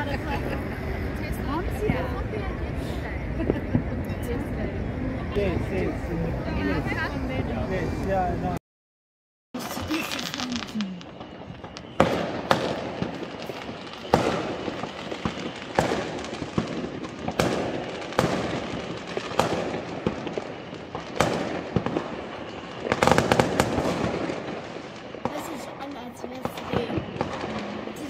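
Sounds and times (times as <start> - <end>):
fireworks bangs: 0.0 - 7.1, 9.6 - 28.0
fireworks crackling: 0.0 - 8.1, 9.6 - 28.0.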